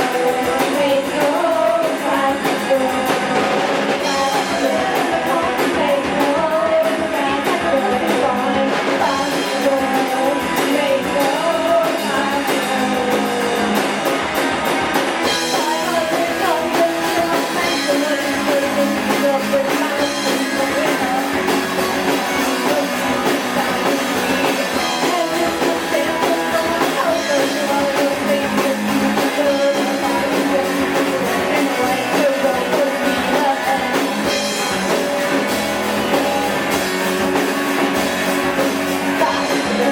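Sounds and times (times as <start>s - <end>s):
person singing: 0.0s - 14.2s, 15.2s - 36.8s, 37.4s - 39.9s
drum kit with cymbals: 0.0s - 39.9s
electric guitars: 0.0s - 39.9s.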